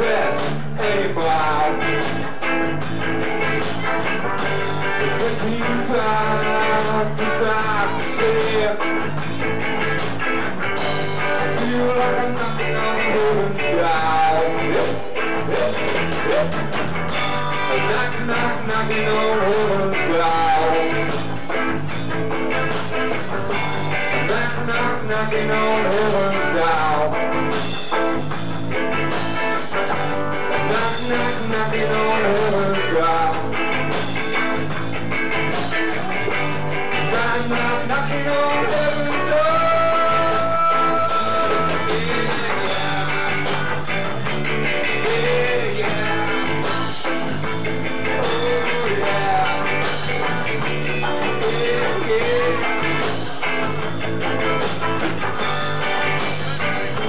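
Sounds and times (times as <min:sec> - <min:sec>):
electric guitar lead bending: 0:00.0 - 0:57.0
live rock band playing: 0:00.0 - 0:57.0.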